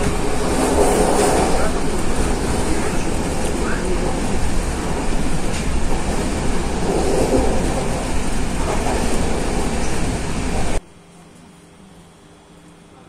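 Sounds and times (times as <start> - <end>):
train wheels rushing on rails: 0.0 - 10.8.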